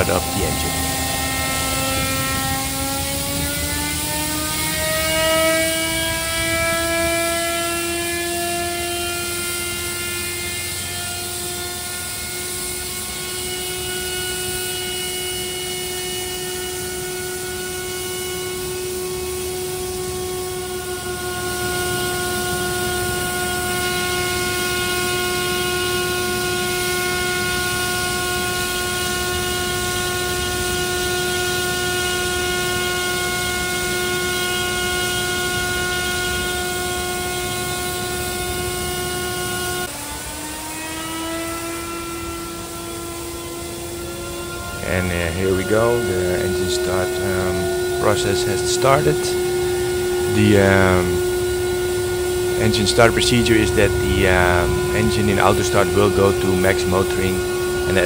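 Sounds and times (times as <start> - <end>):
jet air starter whine: 0.0 - 58.0.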